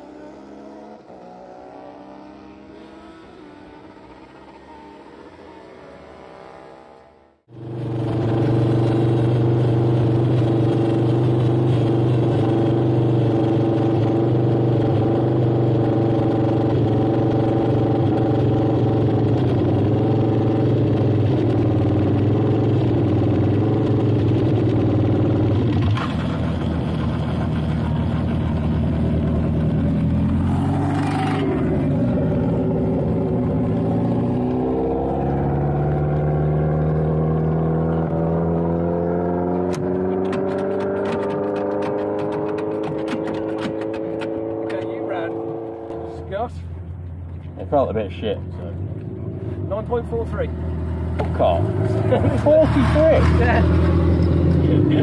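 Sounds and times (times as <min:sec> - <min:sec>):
vehicle engine running: 0:07.5 - 0:55.0.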